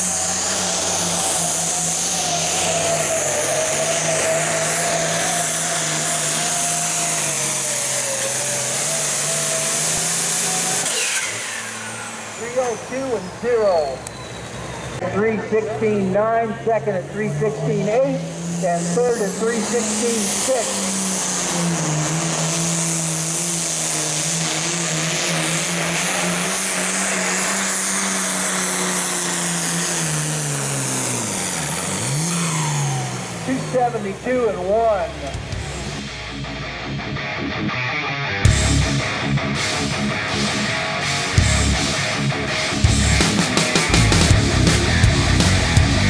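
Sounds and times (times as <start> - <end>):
tractor diesel engine under load: 0.0 - 37.5, 38.4 - 46.0
thin whine: 0.0 - 46.0.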